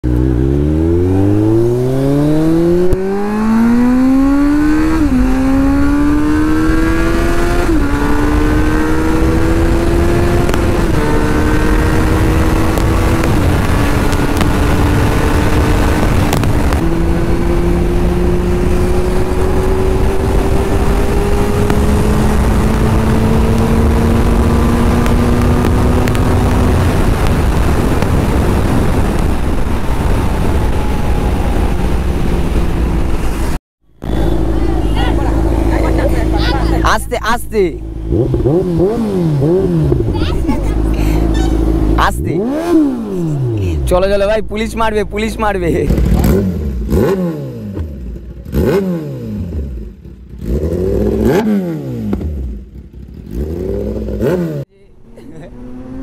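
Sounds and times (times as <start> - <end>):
wind rushing over microphone: 0.0 - 50.0
motorcycle engine accelerating: 0.0 - 56.0.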